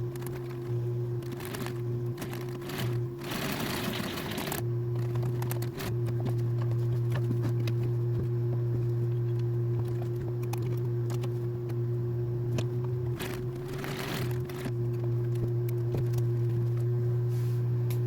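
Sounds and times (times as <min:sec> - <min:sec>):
sewing machine motor hum: 0:00.0 - 0:18.0.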